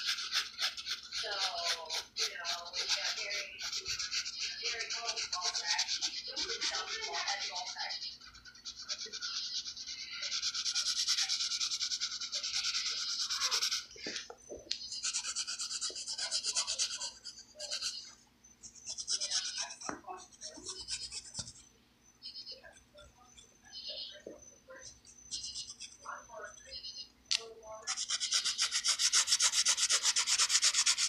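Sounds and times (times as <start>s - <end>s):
pencil shading on paper: 0.0s - 13.9s, 14.8s - 21.7s, 24.8s - 26.3s, 27.8s - 31.0s.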